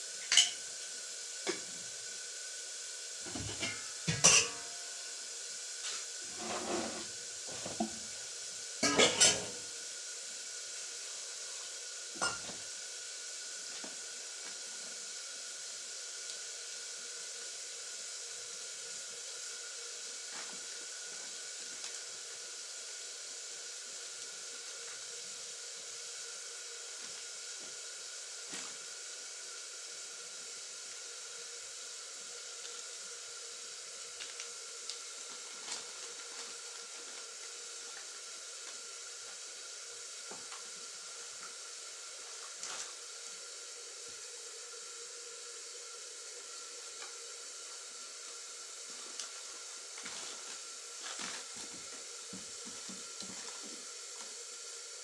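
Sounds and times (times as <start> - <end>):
food cooking hiss: 0.0 - 55.0.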